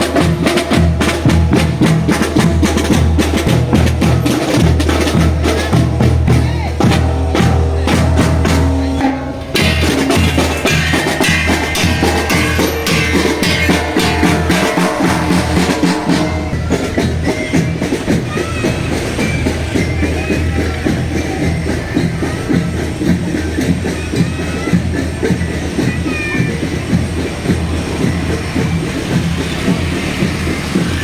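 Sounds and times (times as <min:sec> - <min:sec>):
higher melodic notes: 0:00.0 - 0:31.0
snare and bass drums: 0:00.0 - 0:31.0.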